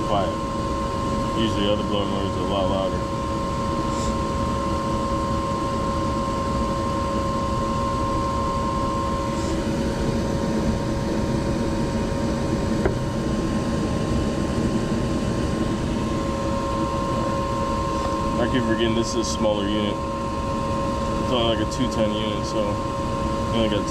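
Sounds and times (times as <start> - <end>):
gas heater whirring and humming: 0.0 - 23.9.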